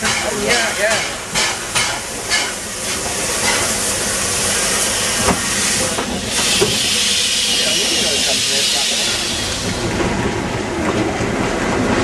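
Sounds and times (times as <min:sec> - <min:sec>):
locomotive steam hissing: 0:00.0 - 0:10.2.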